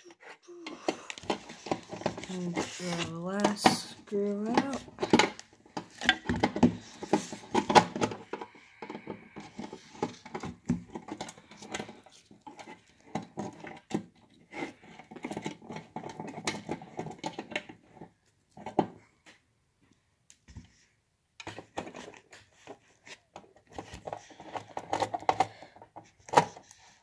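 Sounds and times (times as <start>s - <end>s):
plastic parts clicking and rattling: 0.0s - 19.0s, 21.4s - 27.0s.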